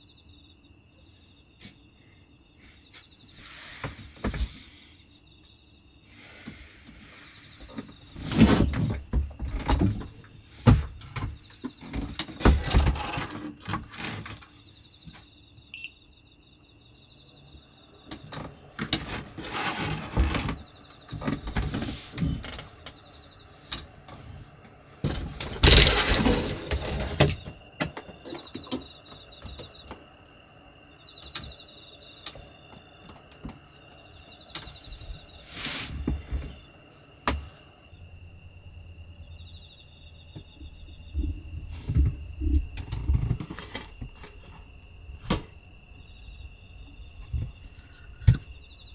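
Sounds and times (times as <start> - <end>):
insects chirping faintly: 0.0 - 48.9.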